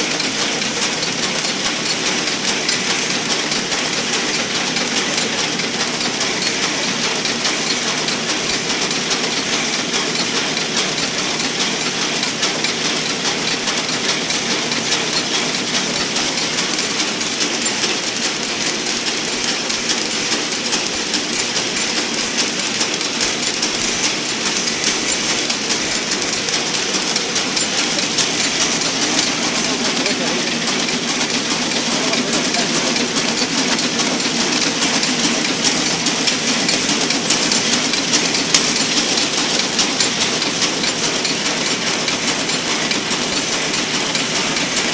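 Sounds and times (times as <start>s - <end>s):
machine rapid clicking clatter: 0.0s - 44.9s
machine whir: 0.0s - 44.9s.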